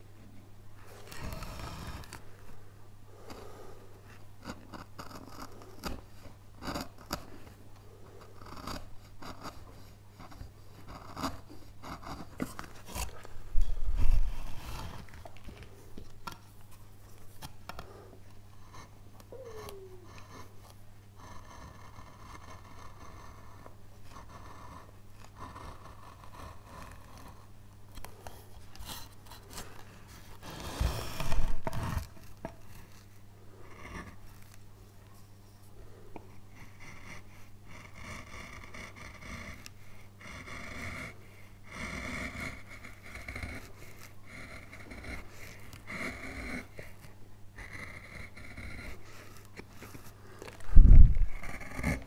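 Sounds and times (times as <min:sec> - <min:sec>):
steady low hum: 0:00.0 - 0:52.0
chisel scraping wood: 0:00.8 - 0:02.2, 0:04.4 - 0:07.6, 0:08.2 - 0:19.0, 0:19.6 - 0:34.6, 0:36.2 - 0:52.0.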